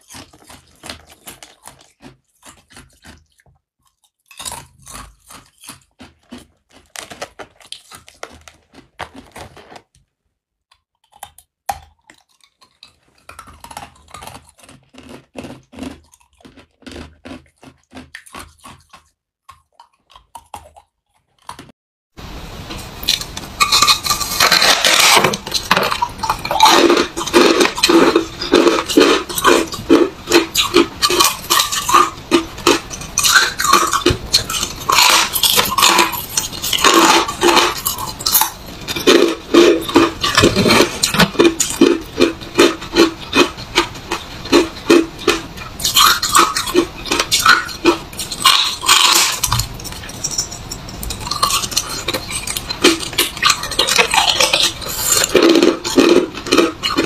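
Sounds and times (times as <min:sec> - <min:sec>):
ice cubes crunched by teeth: 0:00.0 - 0:09.9, 0:10.8 - 0:21.7, 0:23.1 - 0:49.8, 0:51.1 - 0:57.0
freezer frost being chewed: 0:00.0 - 0:21.8, 0:23.0 - 0:57.0.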